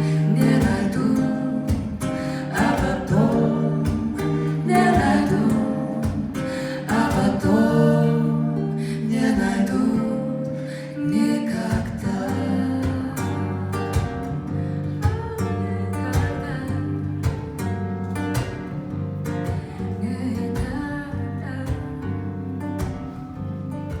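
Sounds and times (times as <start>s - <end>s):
guitar playing slow tune: 0.0s - 24.0s.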